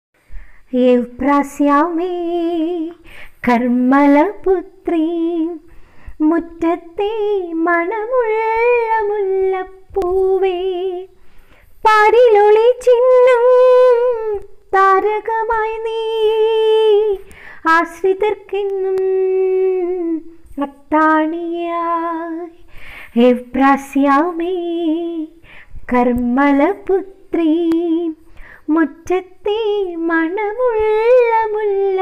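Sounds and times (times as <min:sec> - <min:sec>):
woman singing: 0:00.7 - 0:11.2, 0:11.8 - 0:32.0.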